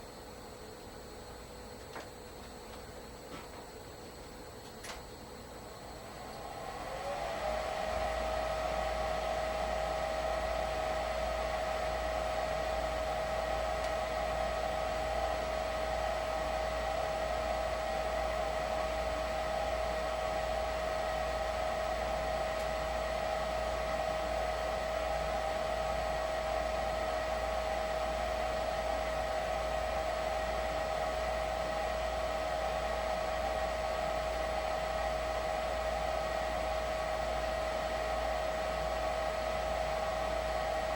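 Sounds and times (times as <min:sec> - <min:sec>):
furnace fan motor whine: 0:00.0 - 0:40.9.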